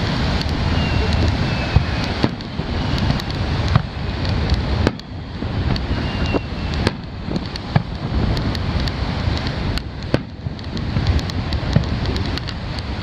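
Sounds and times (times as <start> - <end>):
surf: 0.0 - 13.0
wind on microphone: 0.0 - 13.0
distant fireworks bangs: 0.4 - 12.5.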